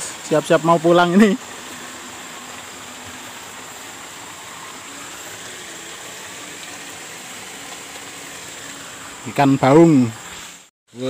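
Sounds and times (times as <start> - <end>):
flowing river water: 0.0 - 10.7
thin steady high tone: 0.0 - 11.0.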